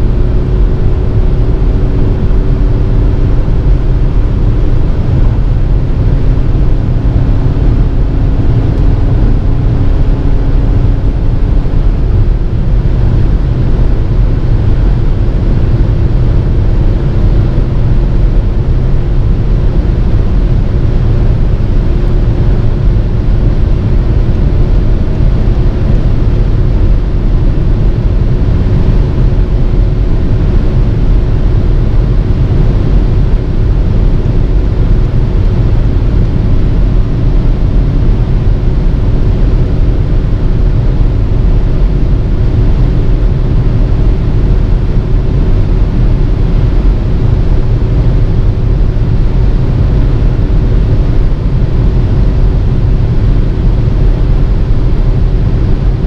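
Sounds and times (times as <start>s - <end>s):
steady low hum: 0.0s - 56.0s
wind and tyre roar: 0.0s - 56.0s.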